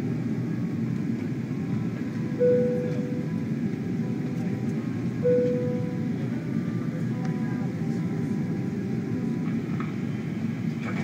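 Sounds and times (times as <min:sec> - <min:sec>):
jet cabin noise: 0:00.0 - 0:11.0.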